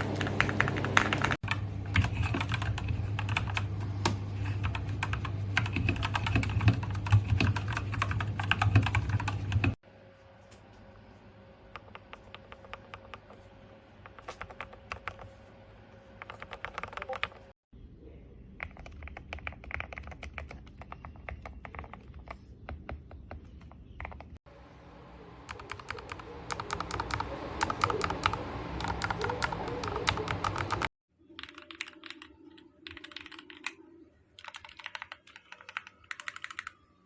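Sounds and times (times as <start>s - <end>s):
typing on mechanical keyboard: 0.0s - 3.8s, 4.4s - 9.8s, 11.8s - 13.3s, 14.1s - 15.3s, 16.2s - 17.6s, 18.6s - 24.4s, 25.5s - 33.8s, 34.4s - 36.9s.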